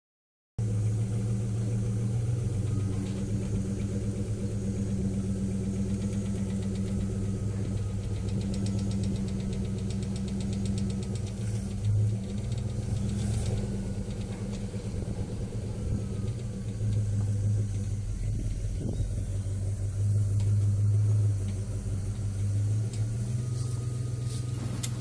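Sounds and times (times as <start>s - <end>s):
car engine idling: 0.6s - 25.0s
engine ticking knock: 0.6s - 25.0s.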